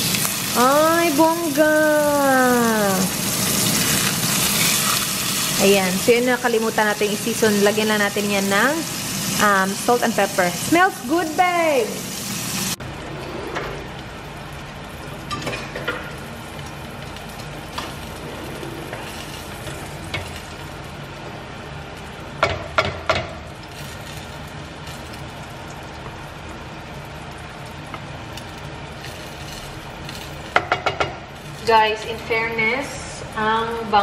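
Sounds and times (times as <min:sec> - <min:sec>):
oil sizzling in a frying pan: 0:00.0 - 0:12.9, 0:13.8 - 0:34.0.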